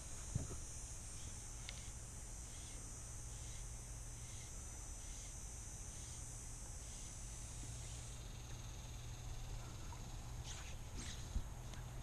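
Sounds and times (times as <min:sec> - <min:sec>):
high-pitched insect buzzing: 0:00.0 - 0:12.0
low steady hum: 0:00.0 - 0:12.0.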